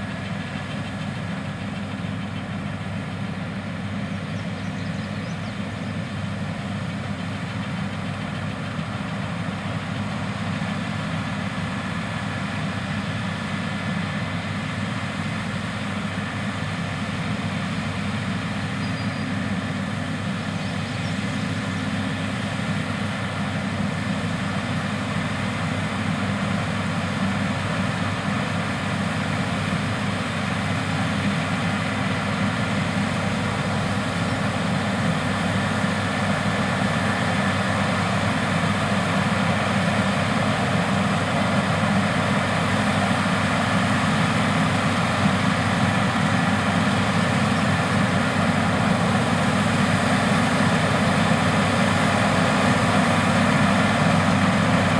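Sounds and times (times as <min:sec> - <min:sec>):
combine harvester drone: 0:00.0 - 0:54.9.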